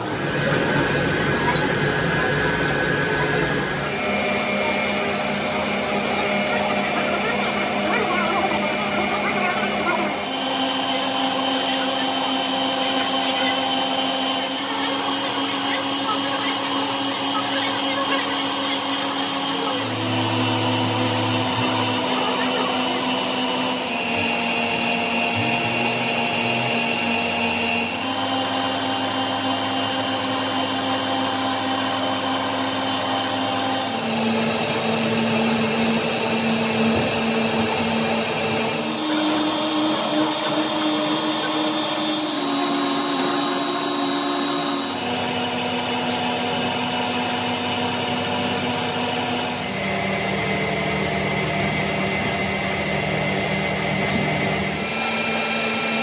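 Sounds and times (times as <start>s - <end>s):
machine tool motor hum: 0.0s - 56.0s.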